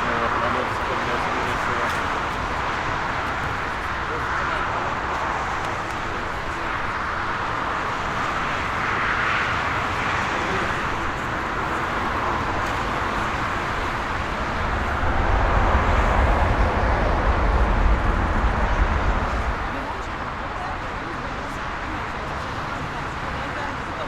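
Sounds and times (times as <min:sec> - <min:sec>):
jet airliner engine rushing: 0:00.0 - 0:24.0.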